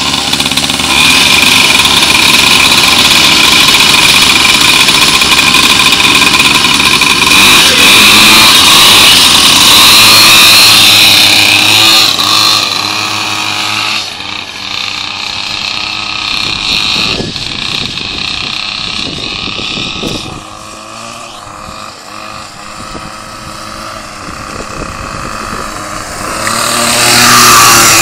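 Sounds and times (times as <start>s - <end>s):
small two-stroke engines running: 0.0s - 28.0s.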